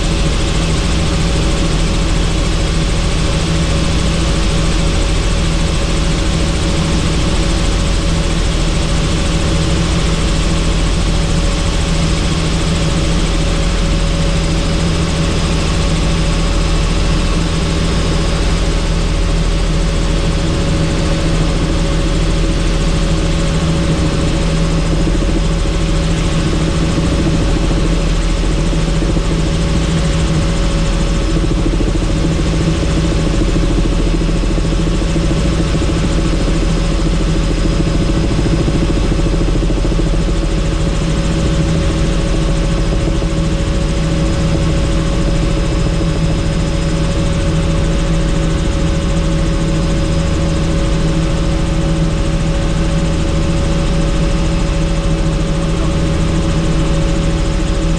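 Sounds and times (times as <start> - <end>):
helicopter rotor and engine drone: 0.0 - 57.9.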